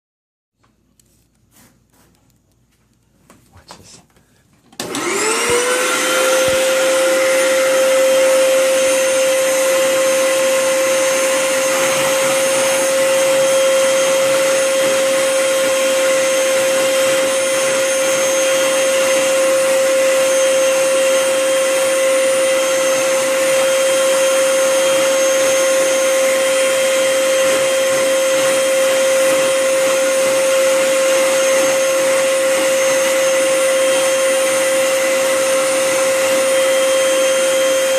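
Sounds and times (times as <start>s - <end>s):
vacuum cleaner running: 4.7s - 37.9s.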